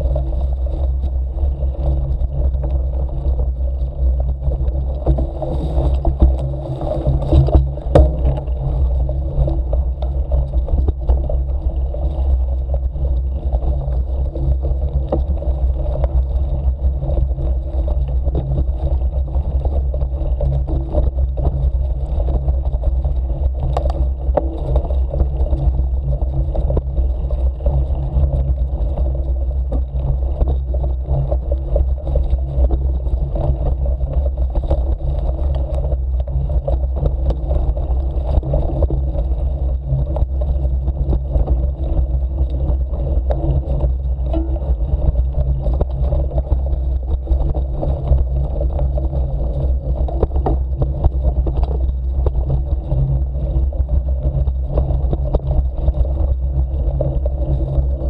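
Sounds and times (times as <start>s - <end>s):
bicycle rolling on dirt trail: 0.0s - 58.0s.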